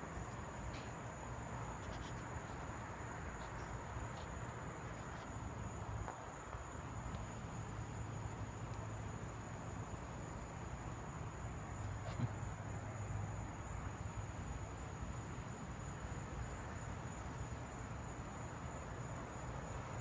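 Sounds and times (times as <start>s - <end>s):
insect chirps: 0.0s - 20.0s
insects trilling: 0.0s - 20.0s.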